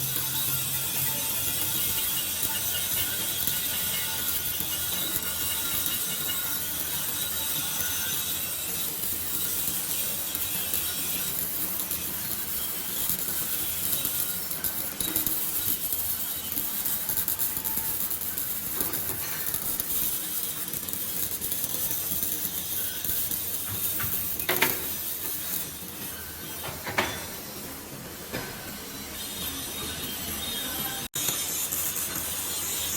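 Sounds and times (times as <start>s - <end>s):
arc welding hiss: 0.0s - 32.9s.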